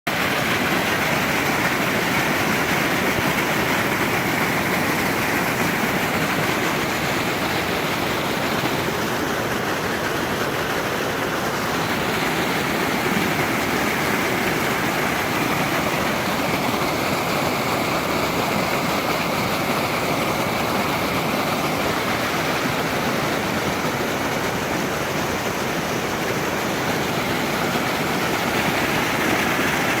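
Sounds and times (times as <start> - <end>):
creek water rushing: 0.1 - 30.0.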